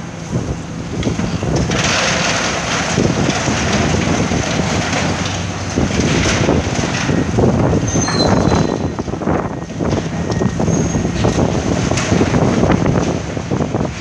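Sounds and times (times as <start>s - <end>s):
diesel engine running: 0.0s - 14.0s
debris crunching and crashing: 1.1s - 14.0s.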